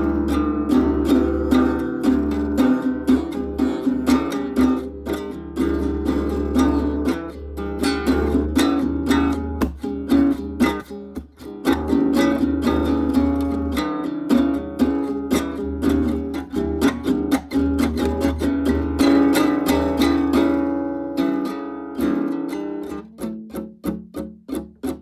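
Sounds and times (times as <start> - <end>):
acoustic guitar strummed unskillfully: 0.0 - 25.0.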